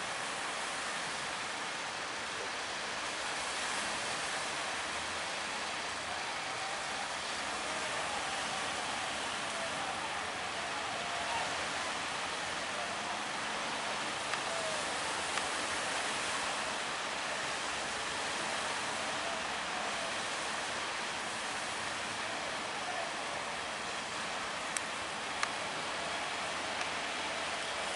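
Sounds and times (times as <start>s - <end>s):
distant surf churning: 0.0s - 27.9s.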